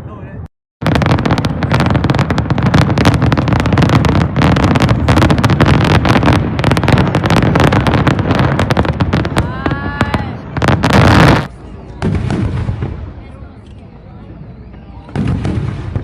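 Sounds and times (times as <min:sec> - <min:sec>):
fireworks bangs and crackles: 0:00.8 - 0:16.0.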